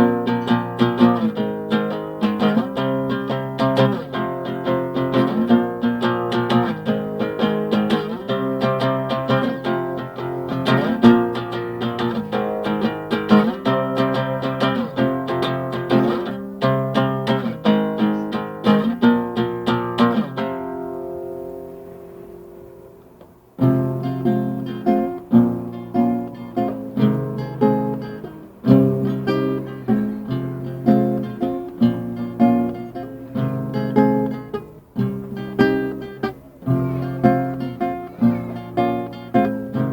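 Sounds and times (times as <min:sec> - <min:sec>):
acoustic guitar playing chords: 0:00.0 - 0:39.9.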